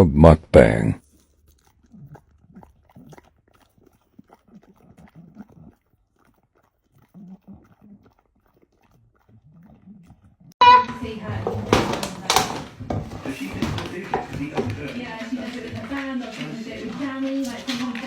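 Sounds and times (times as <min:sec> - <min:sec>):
dog chewing and smacking: 0:01.0 - 0:10.5, 0:12.0 - 0:18.0.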